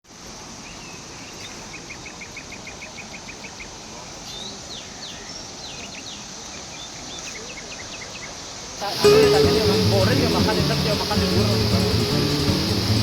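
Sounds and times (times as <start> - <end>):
insects droning: 0.1 - 13.0
birds chirping: 0.5 - 13.0.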